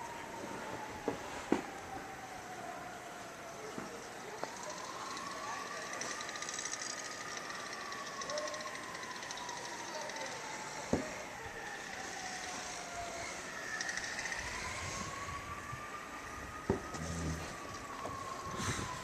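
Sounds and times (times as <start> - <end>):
emergency vehicle siren wailing: 0.0 - 19.0.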